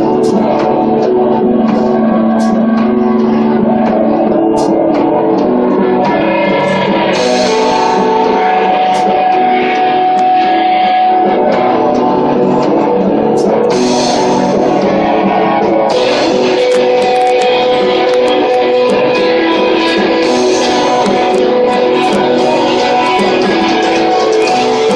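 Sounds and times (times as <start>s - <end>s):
drum kit: 0.0s - 24.9s
electric guitars ringing chords: 0.0s - 24.9s.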